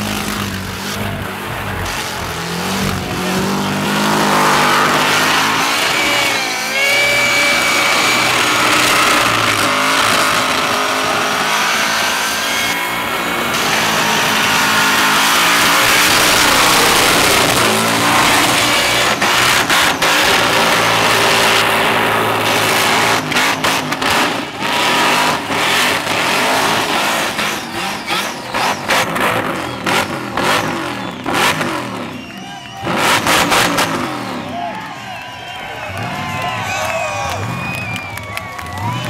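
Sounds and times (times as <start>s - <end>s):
tyres screeching on pavement: 0.0s - 31.7s
car engine revving: 0.0s - 39.0s.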